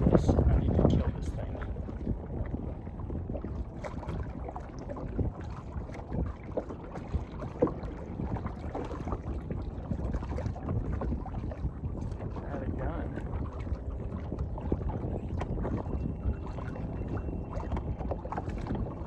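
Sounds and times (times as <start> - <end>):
water lapping against boat hull: 0.0 - 19.0
wind rumbling on microphone: 0.0 - 19.0.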